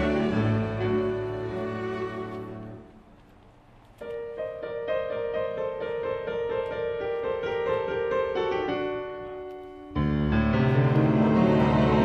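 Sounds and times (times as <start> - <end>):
piano music: 0.0 - 3.1, 4.0 - 12.0.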